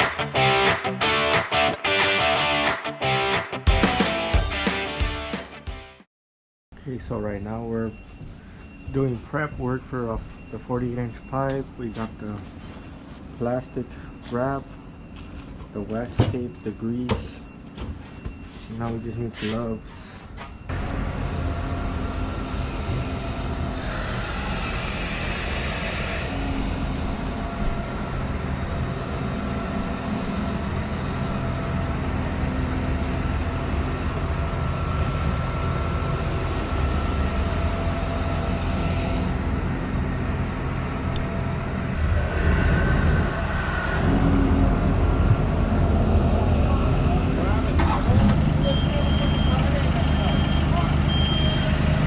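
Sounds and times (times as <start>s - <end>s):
vehicle engine rumbling: 6.9s - 52.0s.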